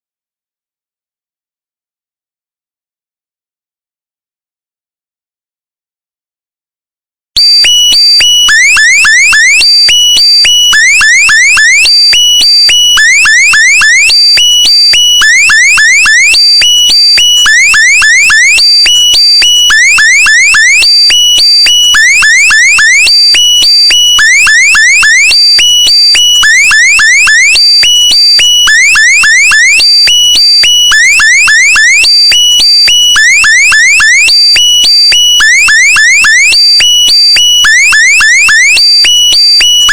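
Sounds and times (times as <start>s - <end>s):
electronic alarm sound effect: 7.4s - 39.9s.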